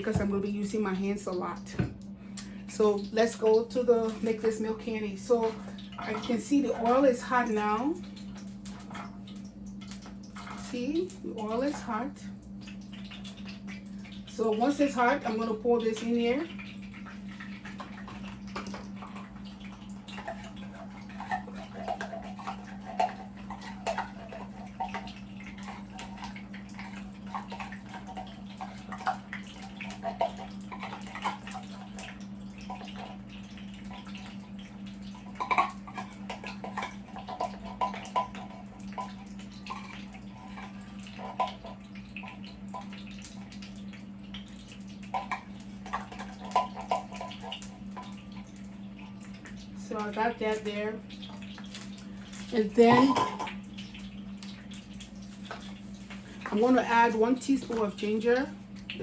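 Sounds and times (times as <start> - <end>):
steady low hum: 0.0 - 54.4
milk bubbling in hot oil: 0.0 - 59.0.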